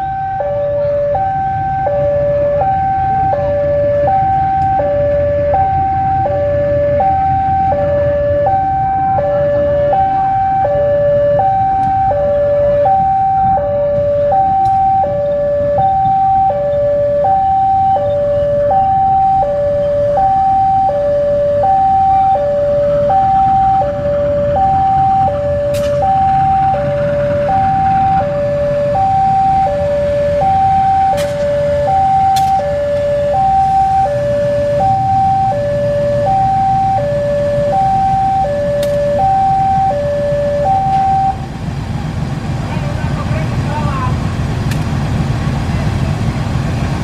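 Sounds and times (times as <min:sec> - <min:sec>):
two-tone railway warning alarm: 0:00.0 - 0:41.5
diesel locomotive engine running: 0:00.0 - 0:47.0.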